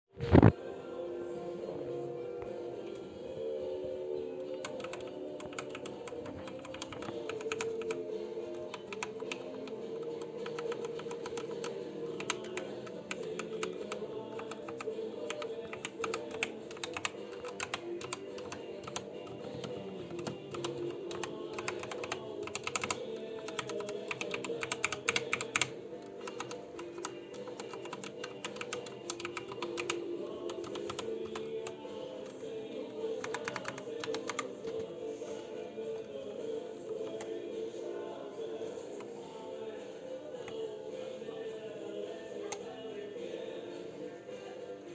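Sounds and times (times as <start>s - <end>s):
background music: 0.1s - 44.9s.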